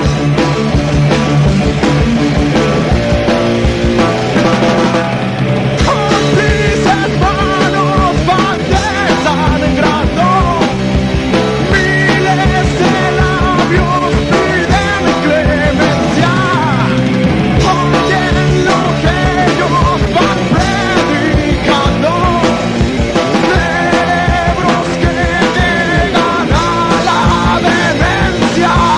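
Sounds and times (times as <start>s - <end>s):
dense steady drumming: 0.0s - 28.9s
heavy metal band playing live: 0.0s - 28.9s
wavering lead guitar line: 0.0s - 28.9s.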